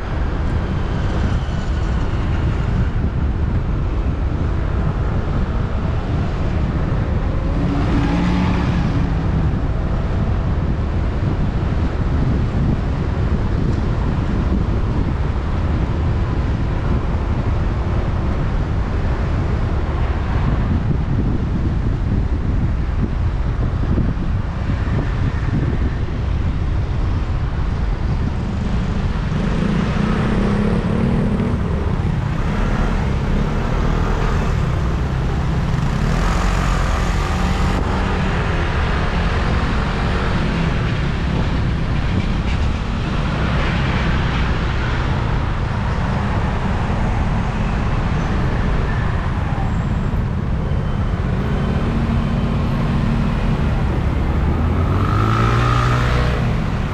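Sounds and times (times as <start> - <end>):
road traffic: 0.0 - 56.9
wind rushing over camera: 0.0 - 56.9.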